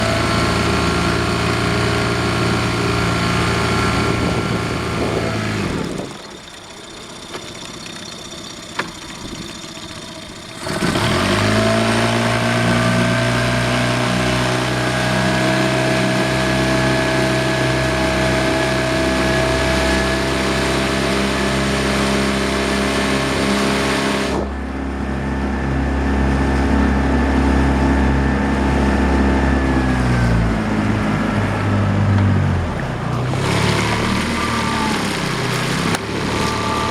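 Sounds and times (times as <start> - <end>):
engine revving: 0.0 - 6.2, 10.5 - 36.9.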